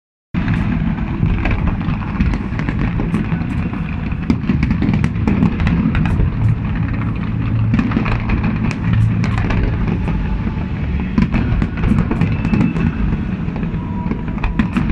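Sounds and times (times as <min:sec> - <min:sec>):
fireworks crackling and popping: 0:00.4 - 0:14.9
fireworks rumbling: 0:00.4 - 0:14.9.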